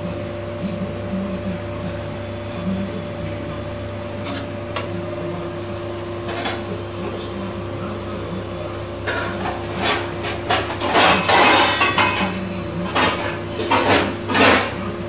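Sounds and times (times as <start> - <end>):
food boiling and spluttering in pot: 0.0 - 15.0
steady low hum: 0.0 - 15.0.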